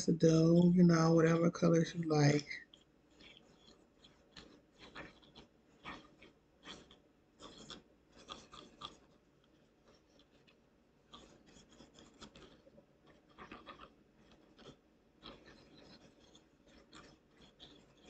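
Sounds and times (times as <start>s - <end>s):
toothpick scratching wet paint: 0.9s - 18.0s.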